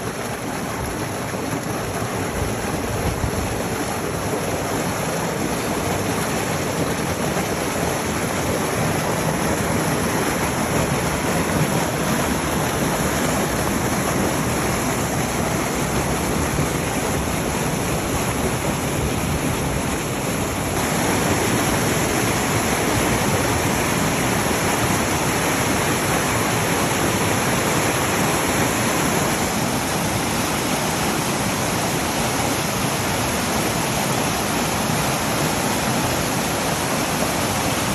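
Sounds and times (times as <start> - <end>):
fast-running floodwater: 0.0 - 37.9.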